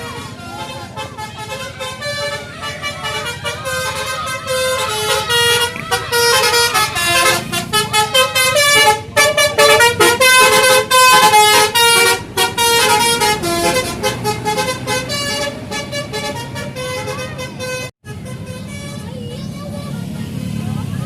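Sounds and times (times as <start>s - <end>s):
musical air horn notes: 0.0s - 19.0s.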